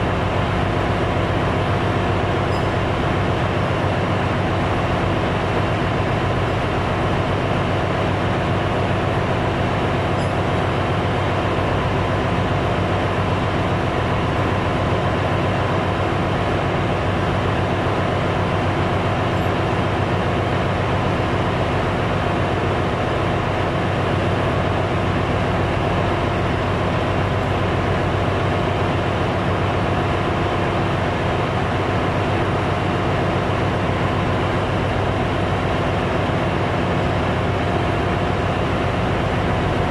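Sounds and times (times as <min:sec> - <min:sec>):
engine-room machinery drone: 0:00.0 - 0:39.9.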